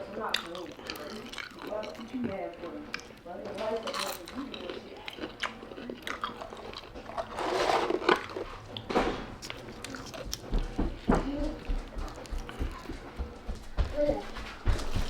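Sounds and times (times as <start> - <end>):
person chewing crunchy food: 0.0 - 10.8, 11.6 - 13.2, 14.7 - 15.0.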